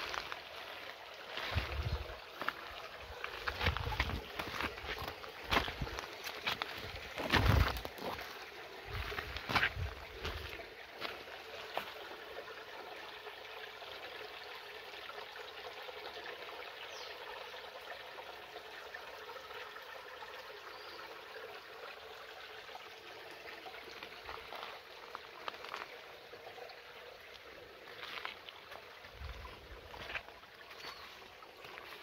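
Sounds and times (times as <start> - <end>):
stream trickling over stones: 0.0 - 32.0.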